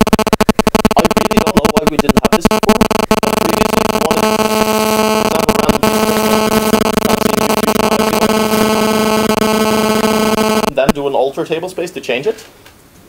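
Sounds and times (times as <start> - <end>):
loud electronic buzz: 0.0 - 11.1
lecture audio: 0.0 - 12.8.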